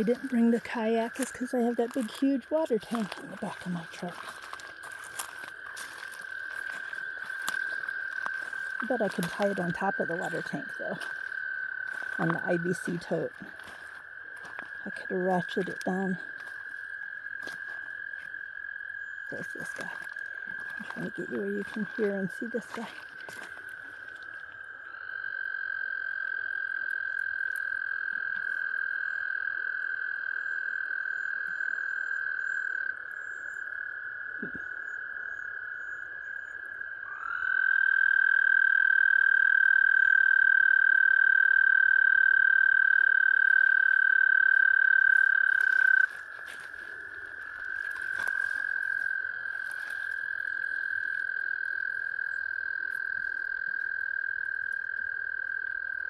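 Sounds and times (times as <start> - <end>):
frog trilling: 0.0 - 56.0.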